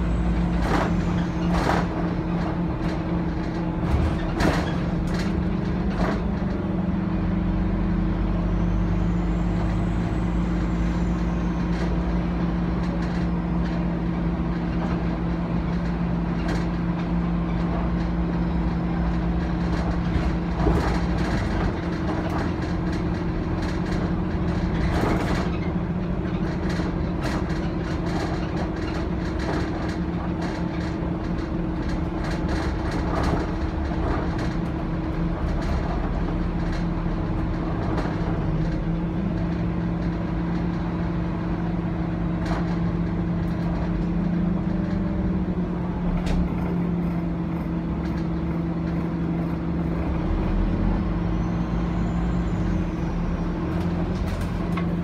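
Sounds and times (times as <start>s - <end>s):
bus body rattling and knocking: 0.0s - 55.0s
bus diesel engine droning: 0.0s - 55.0s
road noise: 0.0s - 55.0s.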